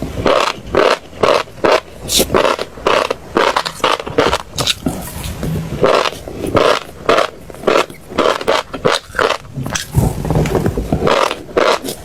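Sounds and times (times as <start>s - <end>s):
chewing crunchy food: 0.2s - 12.0s.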